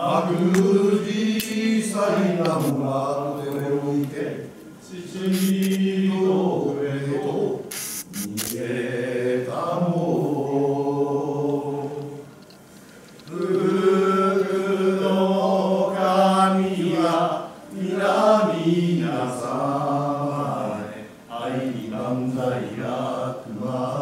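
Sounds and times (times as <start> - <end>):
voices chanting in held notes: 0.0 - 7.7, 8.5 - 12.2, 13.3 - 24.0.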